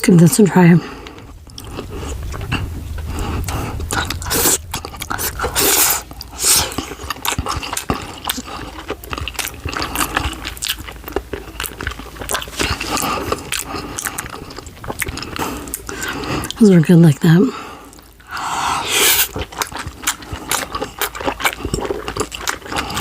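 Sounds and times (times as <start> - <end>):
chewing fried dumpling: 0.8 - 16.7, 17.5 - 23.0.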